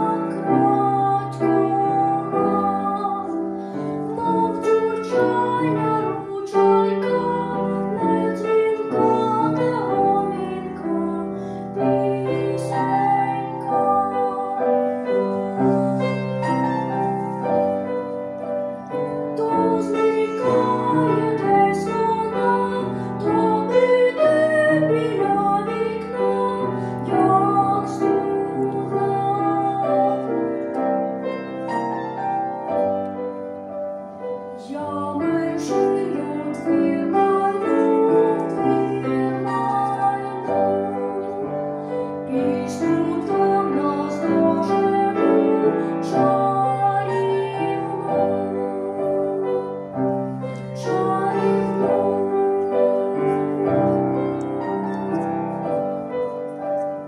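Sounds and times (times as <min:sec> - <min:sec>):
grand piano accompaniment: 0:00.0 - 0:57.0.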